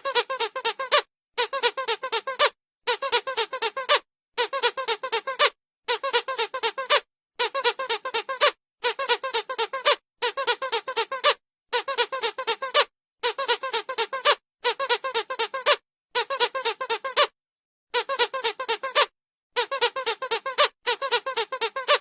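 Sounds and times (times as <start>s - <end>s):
squeaky dog toy squeaking: 0.0s - 22.0s.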